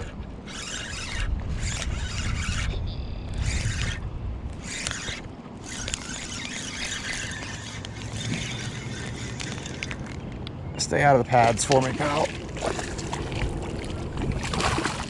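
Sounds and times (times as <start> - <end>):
fishing reel whirring: 0.0 - 10.3, 11.4 - 15.0
wind rumble: 0.0 - 10.8, 12.2 - 15.0.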